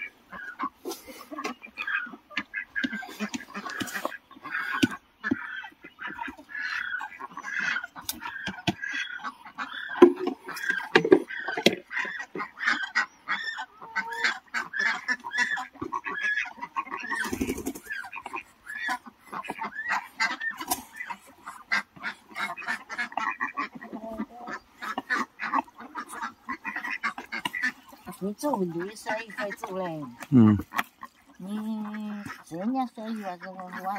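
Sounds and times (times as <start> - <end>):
ducks and fowl calling: 0.0 - 33.9.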